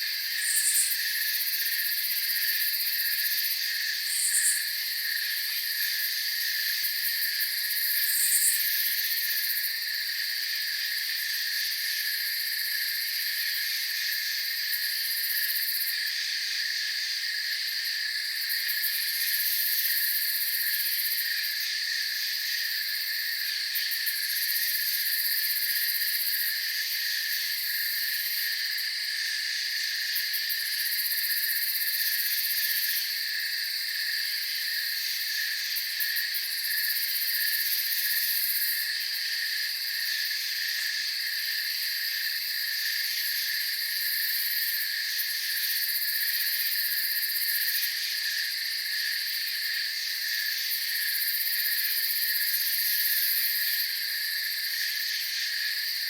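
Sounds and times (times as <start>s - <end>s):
crickets and insects chirping: 0.0s - 56.0s
high-pitched insect trill: 0.0s - 56.0s.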